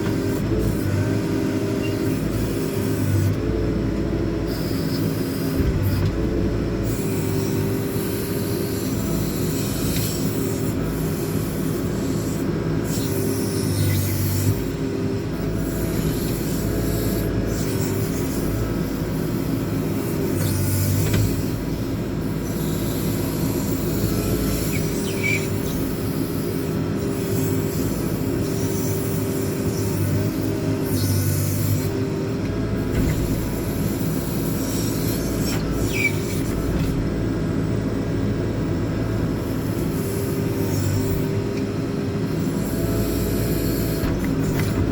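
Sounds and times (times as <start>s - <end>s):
diesel engine under load: 0.0s - 44.9s
hydraulic whine: 0.0s - 44.9s.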